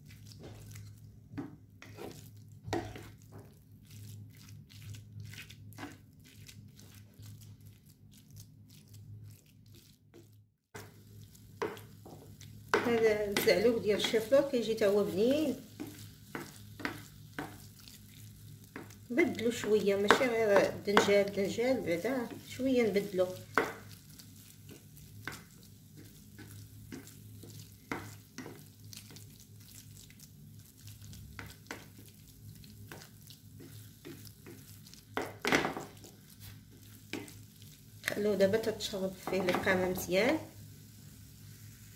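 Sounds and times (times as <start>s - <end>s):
spatula scraping a frying pan: 0.0s - 7.9s, 8.8s - 38.0s
faint sizzle: 0.0s - 41.9s.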